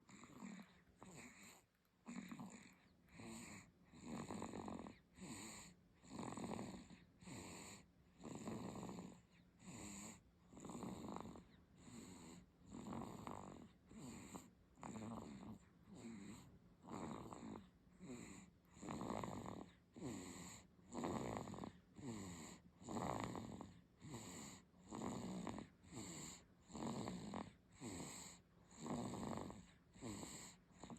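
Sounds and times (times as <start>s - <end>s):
baby snoring: 0.0s - 30.9s.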